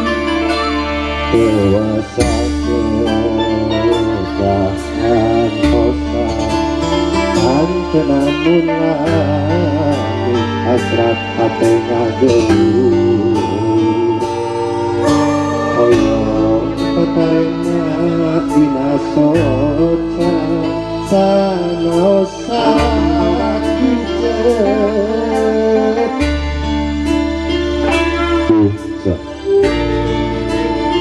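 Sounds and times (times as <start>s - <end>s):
bass notes: 0.0s - 31.0s
electric guitar: 0.0s - 31.0s
keyboard: 0.0s - 31.0s
man singing: 1.2s - 26.4s.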